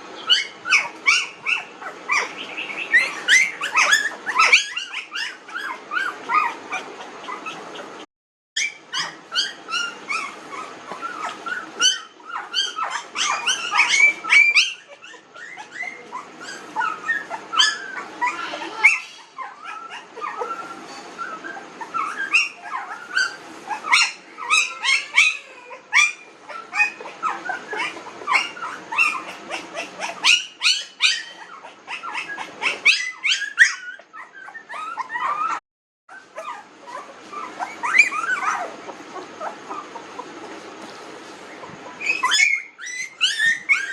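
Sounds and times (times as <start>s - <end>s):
puppies whimpering and squeaking: 0.0s - 43.9s.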